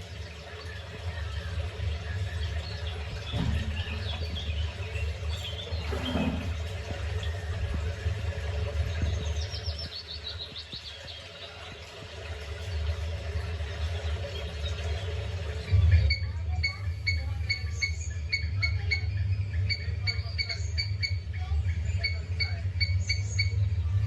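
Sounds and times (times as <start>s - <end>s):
small birds chirping: 0.0s - 7.4s, 8.8s - 12.0s, 14.2s - 23.9s
steady low rumble: 0.0s - 24.0s.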